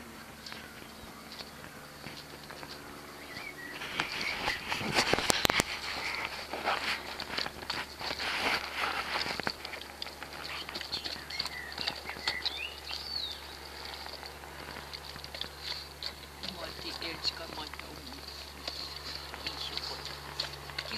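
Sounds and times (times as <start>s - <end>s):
dog chomping and slurping: 0.9s - 20.9s.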